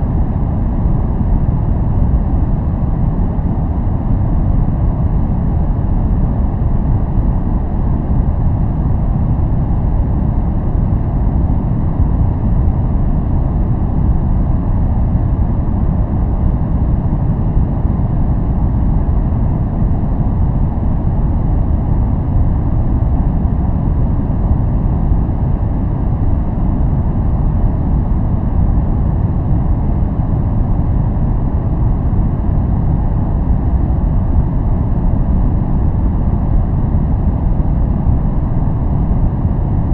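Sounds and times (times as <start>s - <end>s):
deep muffled white noise: 0.0s - 39.9s.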